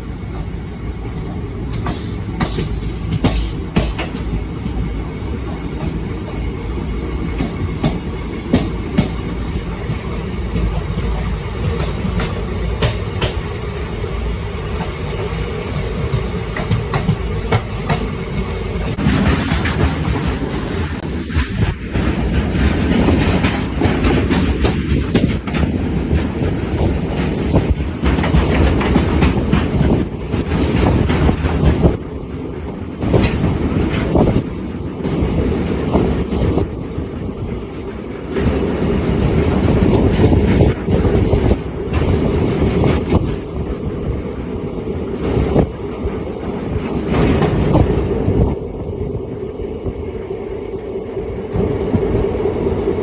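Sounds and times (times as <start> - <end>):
train wheels clattering over rails: 0.0 - 48.6.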